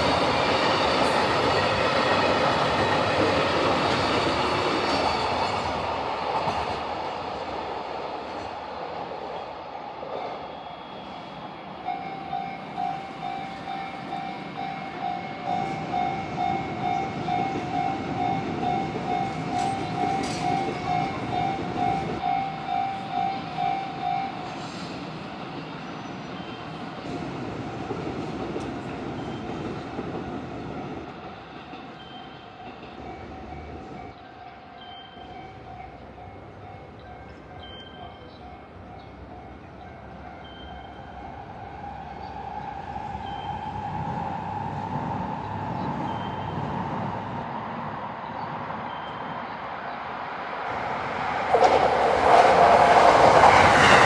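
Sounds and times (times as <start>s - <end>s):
train noise on rails: 0.0s - 54.0s.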